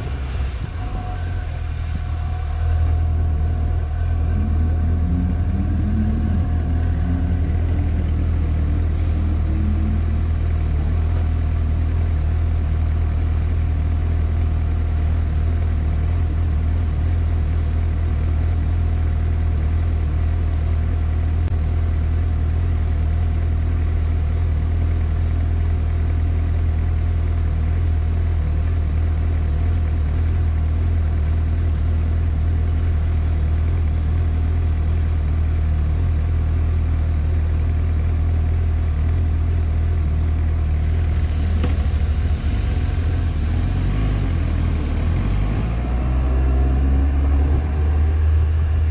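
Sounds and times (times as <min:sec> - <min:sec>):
motorcycle engine idling: 0:00.0 - 0:48.9.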